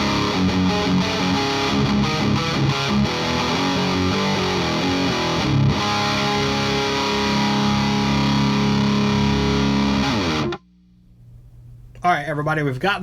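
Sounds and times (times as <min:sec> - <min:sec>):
distorted electric guitar: 0:00.0 - 0:10.7.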